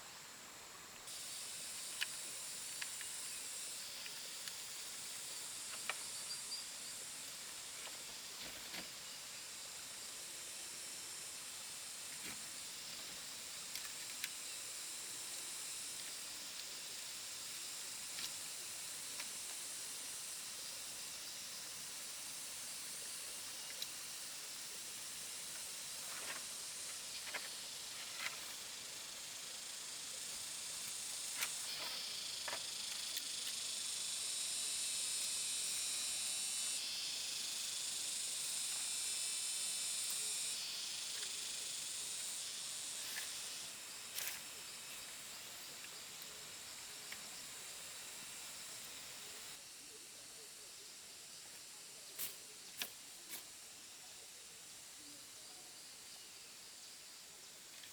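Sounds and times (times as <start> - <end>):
hissing insect chorus: 0.0 - 57.9.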